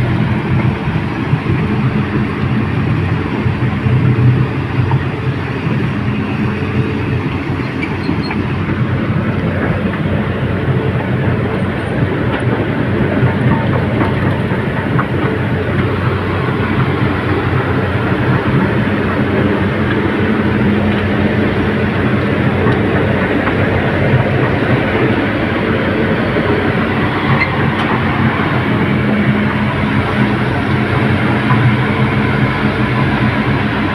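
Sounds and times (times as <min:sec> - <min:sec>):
diesel engine hum: 0:00.0 - 0:33.9
tracks rattling: 0:00.0 - 0:33.9.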